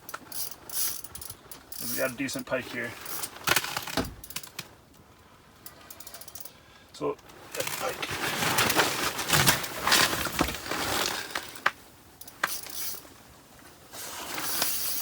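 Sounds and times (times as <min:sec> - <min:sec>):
crunching scraping handling noise: 0:00.0 - 0:04.8, 0:07.2 - 0:15.0.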